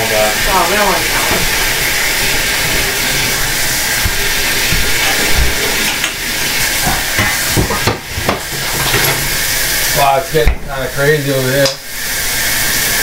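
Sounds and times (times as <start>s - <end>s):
steady hissing noise: 0.0s - 13.0s.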